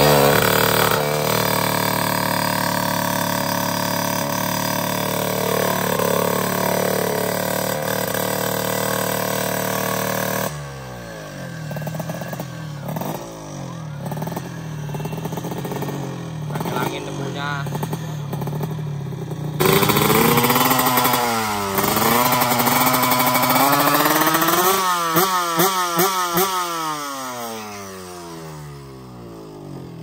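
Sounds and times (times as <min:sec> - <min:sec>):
motorcycle throttle blips: 0:00.0 - 0:10.5, 0:11.6 - 0:26.6
motorcycle engine idling: 0:00.0 - 0:30.0.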